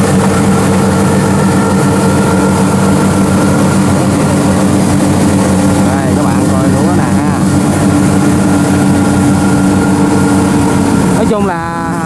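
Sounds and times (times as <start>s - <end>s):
combine harvester engine running: 0.0s - 12.0s.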